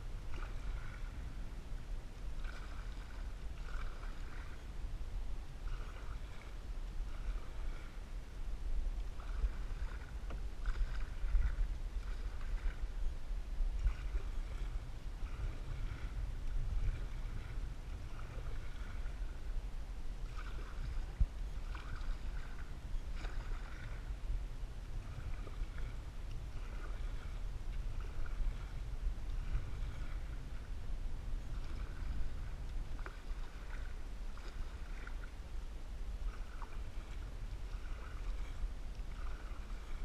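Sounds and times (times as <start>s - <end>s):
paddle strokes in water: 0.0s - 40.0s
steady low rumble: 0.0s - 40.0s
water lapping at hull: 0.0s - 40.0s.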